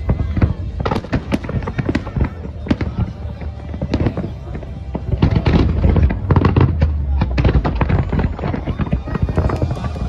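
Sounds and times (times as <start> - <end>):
firework bangs and crackling: 0.0 - 10.0
low rumbling booms: 0.0 - 10.0.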